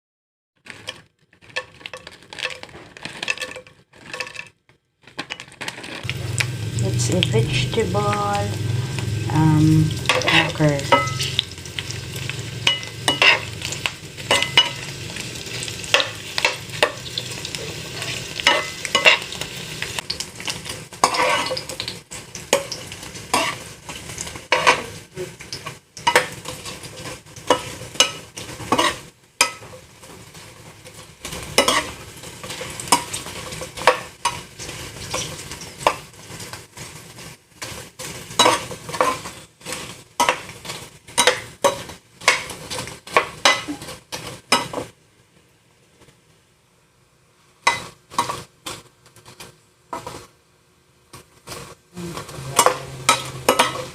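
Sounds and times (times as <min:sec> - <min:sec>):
crackers frying in hot oil: 0:00.6 - 0:53.9.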